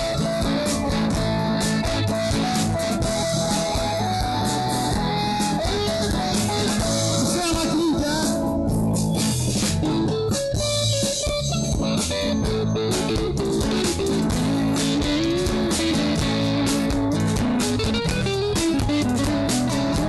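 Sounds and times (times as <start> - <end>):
bass guitar: 0.0 - 20.0
electric guitar lead line: 0.0 - 20.0
strummed guitar: 0.0 - 20.0.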